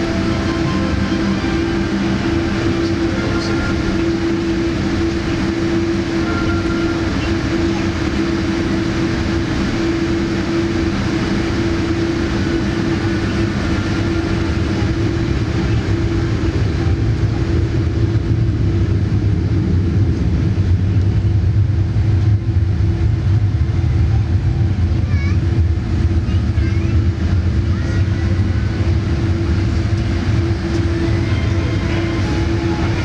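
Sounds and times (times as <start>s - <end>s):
aircraft cabin hum: 0.0s - 33.0s
deep rumble: 0.0s - 33.0s.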